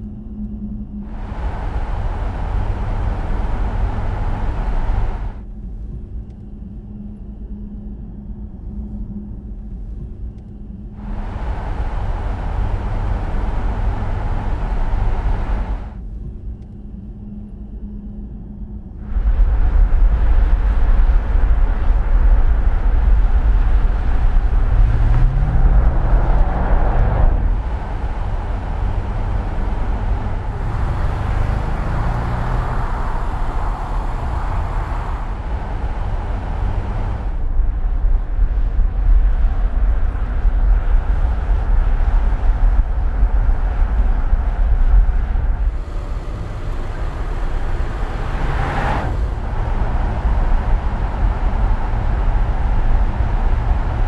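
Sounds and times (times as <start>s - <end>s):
car engine hum: 0.0s - 54.0s
road and tyre noise: 0.0s - 54.0s.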